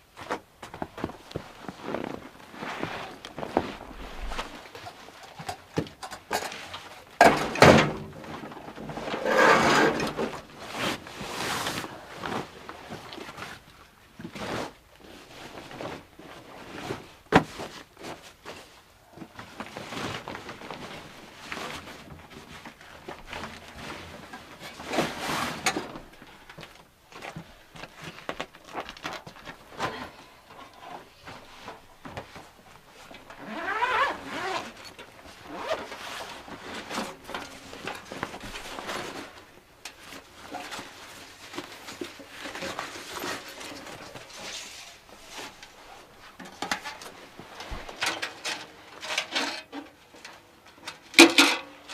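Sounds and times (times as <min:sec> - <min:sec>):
rustling and scraping handling noises: 0:00.0 - 0:51.9.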